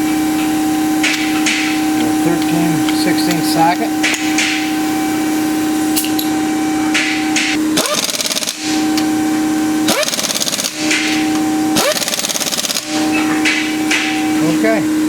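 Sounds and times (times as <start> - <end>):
impact wrench hammering: 0.0 - 15.0
impact wrench whirring: 0.0 - 15.0.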